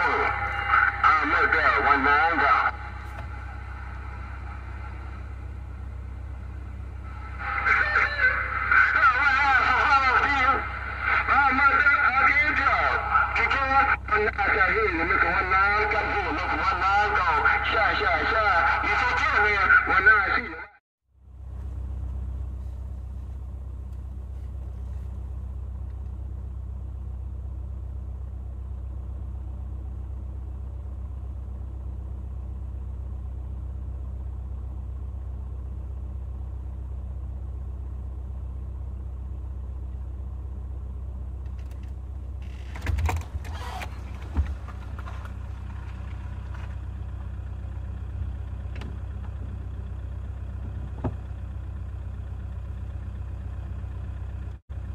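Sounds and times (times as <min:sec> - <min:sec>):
vehicle engine idling: 0:00.0 - 0:54.9.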